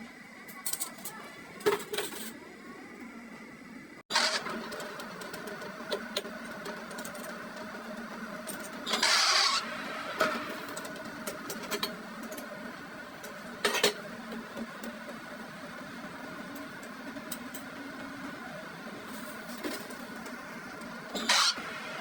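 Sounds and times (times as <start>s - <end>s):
workshop machine humming: 0.0s - 22.0s.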